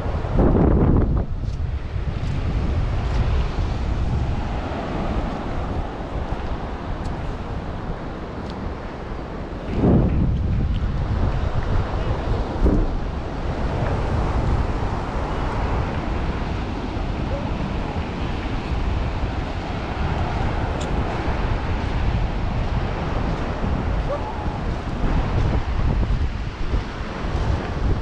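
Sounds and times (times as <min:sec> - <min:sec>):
ocean surf washing: 0:00.0 - 0:28.0
wind buffeting microphone: 0:00.0 - 0:28.0.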